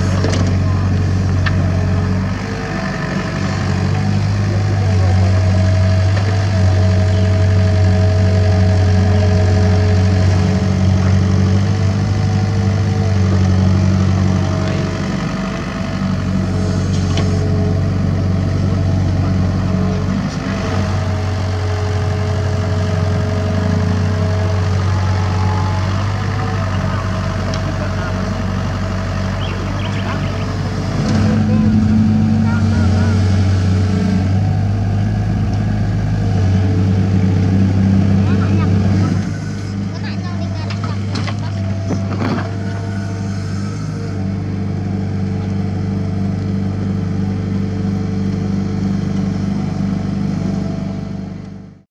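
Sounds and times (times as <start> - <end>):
excavator diesel engine under load: 0.0 - 51.9.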